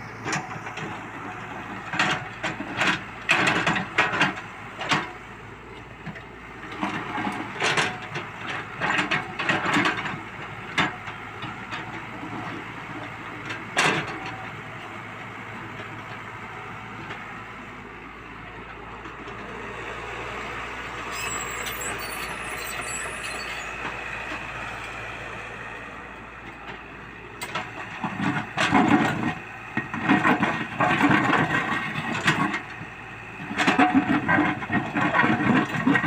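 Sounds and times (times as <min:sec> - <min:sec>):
excavator engine running: 0:00.0 - 0:36.0.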